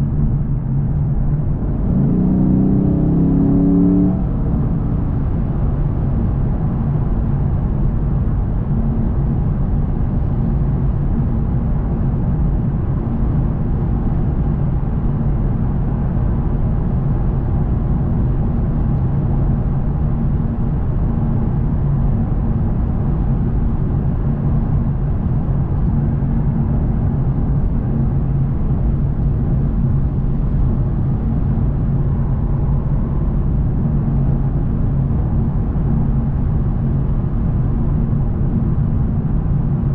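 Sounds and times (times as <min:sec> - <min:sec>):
car engine droning: 0:00.0 - 0:39.9
road and tyre noise: 0:00.0 - 0:39.9.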